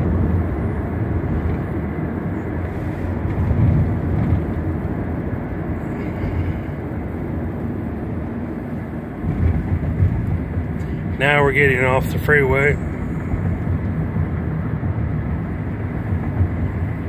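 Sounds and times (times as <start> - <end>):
car engine hum: 0.0 - 17.0
road and tyre noise: 0.0 - 17.0.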